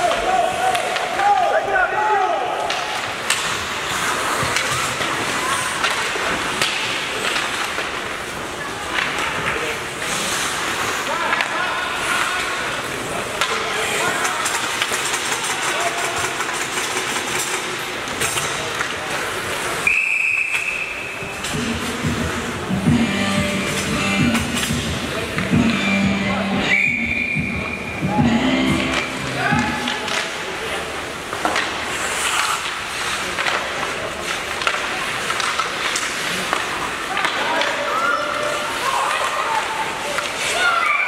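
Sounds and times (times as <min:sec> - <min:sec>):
skates and sticks on ice: 0:00.0 - 0:26.6, 0:27.2 - 0:41.0.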